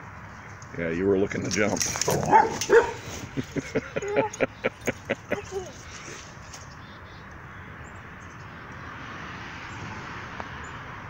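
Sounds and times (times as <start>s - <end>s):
distant vehicle hum: 0.0s - 11.0s.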